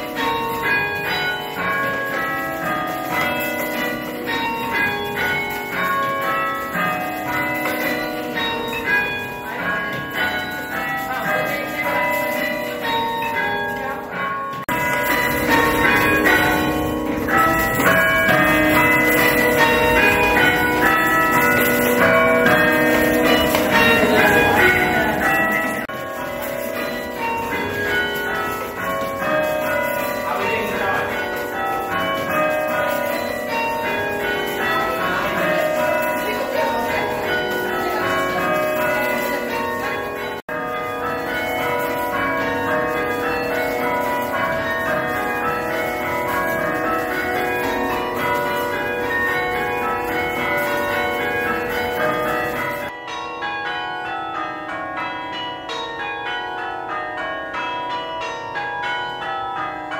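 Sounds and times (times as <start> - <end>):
church bells chiming: 0.0 - 59.9.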